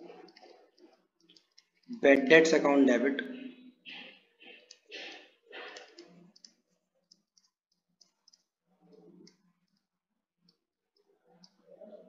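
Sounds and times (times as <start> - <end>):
stylus clicking on pen tablet: 0.0 - 2.0, 3.9 - 12.0.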